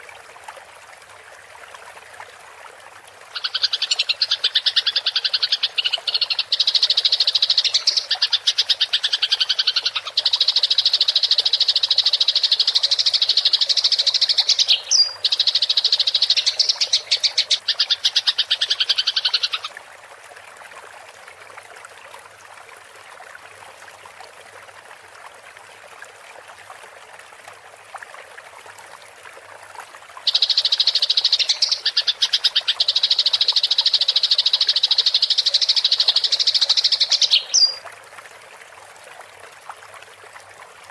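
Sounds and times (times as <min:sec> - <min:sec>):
faint running water: 0:00.0 - 0:40.9.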